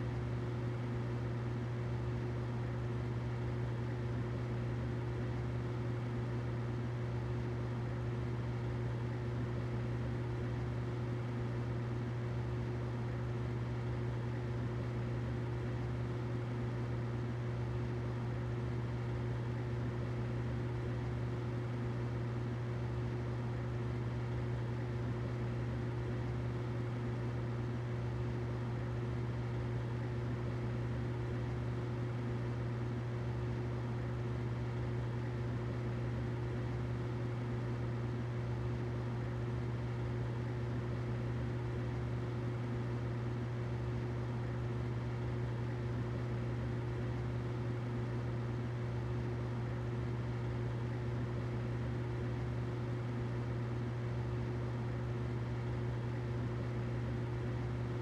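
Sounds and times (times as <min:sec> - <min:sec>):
humidifier humming and hissing: 0:00.0 - 0:58.0.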